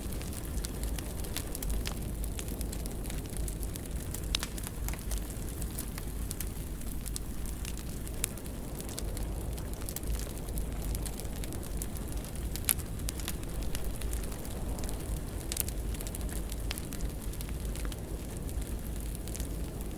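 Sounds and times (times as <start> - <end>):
burning logs crackling and popping: 0.0 - 19.9
low rumble of flame: 0.0 - 19.9.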